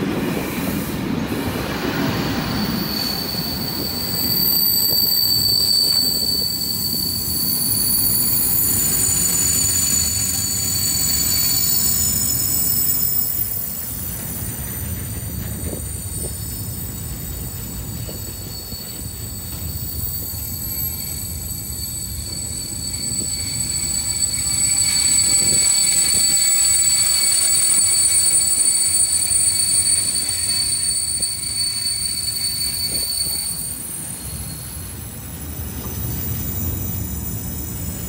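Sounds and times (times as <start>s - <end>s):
train passing: 0.0s - 38.0s
high steady ringing tone: 2.8s - 15.2s, 16.0s - 34.7s.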